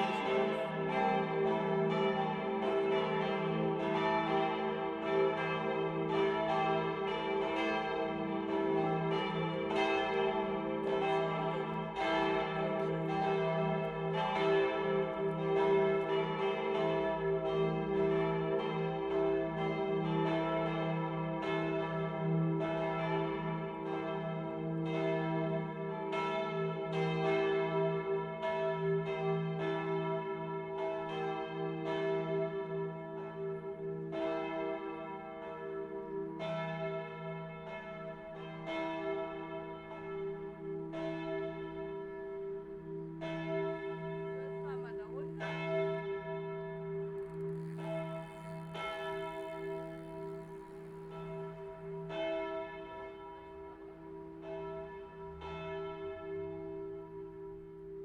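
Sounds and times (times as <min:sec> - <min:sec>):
church bells pealing: 0:00.0 - 0:58.0.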